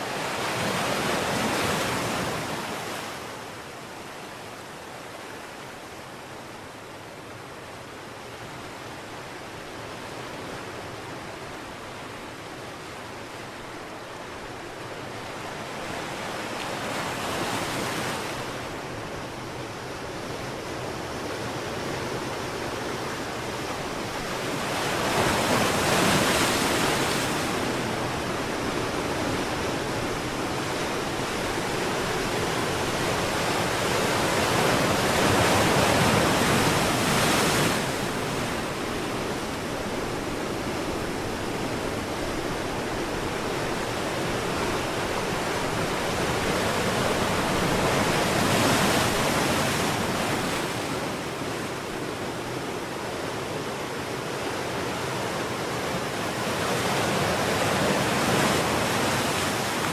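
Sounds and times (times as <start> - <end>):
sea waves washing onto shore: 9.2 - 59.9.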